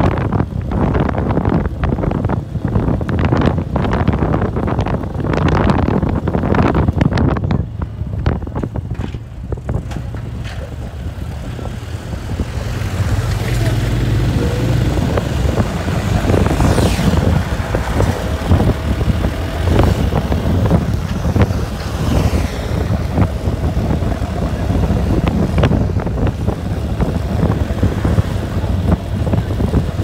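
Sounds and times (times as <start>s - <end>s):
engine and tyre rumble: 0.0s - 30.0s
wind buffeting microphone: 0.0s - 30.0s.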